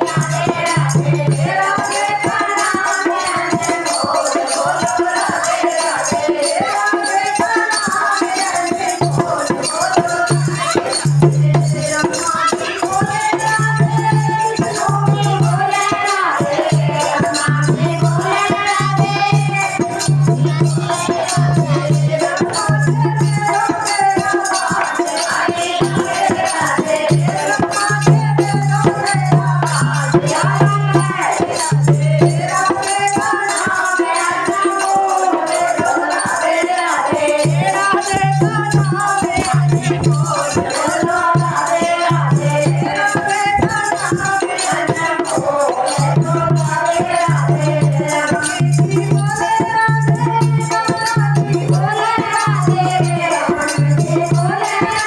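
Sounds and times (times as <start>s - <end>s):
shaker rattle rhythm: 0.0s - 55.0s.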